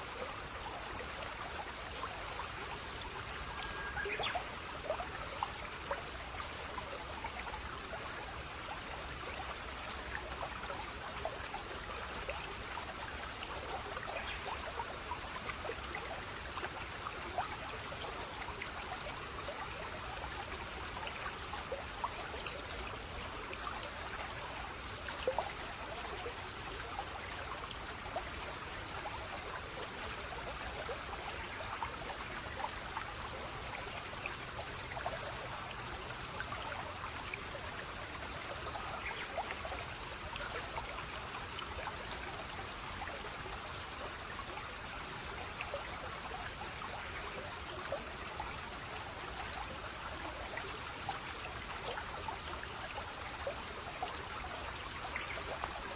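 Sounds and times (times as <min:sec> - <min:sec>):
stream water trickling: 0:00.0 - 0:55.9.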